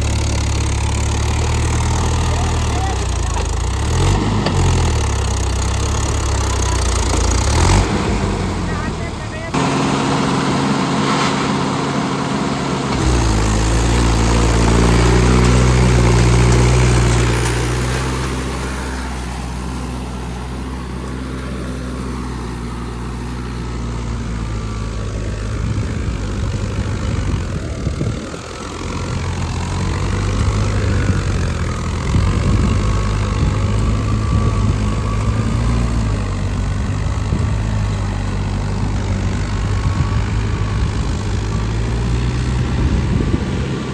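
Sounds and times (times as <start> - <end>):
tractor diesel engine revving: 0.0 - 43.9.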